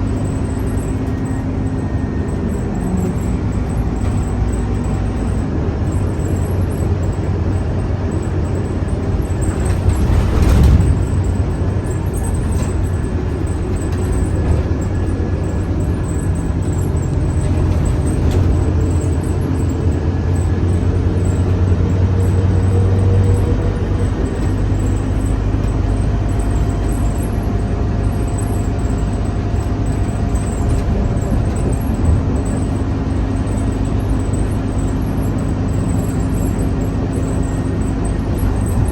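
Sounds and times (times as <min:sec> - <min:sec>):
bus engine whining: 0:00.0 - 0:38.9.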